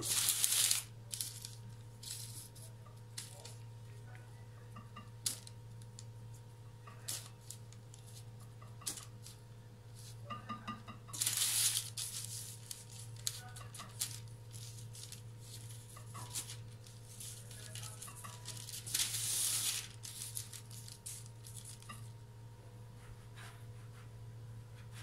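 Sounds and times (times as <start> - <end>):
baking paper rustling and crinkling: 0.0 - 4.2, 5.2 - 10.3, 11.1 - 22.2.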